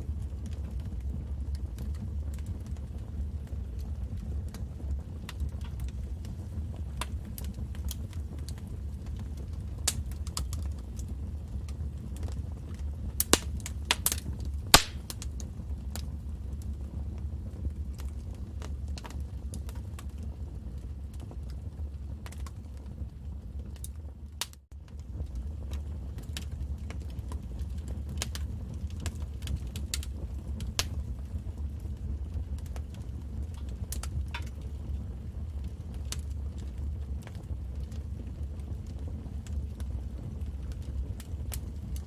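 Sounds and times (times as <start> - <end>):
fire rumbling: 0.0 - 42.0
wood fire crackling and popping: 0.0 - 42.0.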